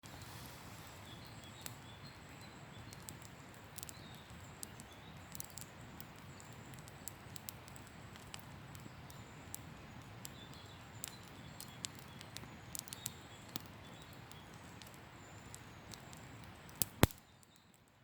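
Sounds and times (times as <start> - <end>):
campfire crackling: 0.0 - 18.0
faint steady hiss: 0.0 - 18.0.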